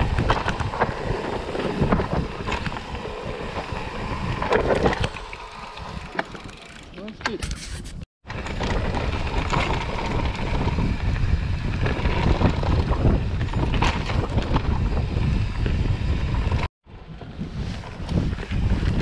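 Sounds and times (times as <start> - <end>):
wind buffeting microphone: 0.0 - 6.8, 8.3 - 19.0
bike tyres rolling over dirt: 0.0 - 7.2, 8.2 - 19.0
bike clicks and rattles: 0.0 - 19.0.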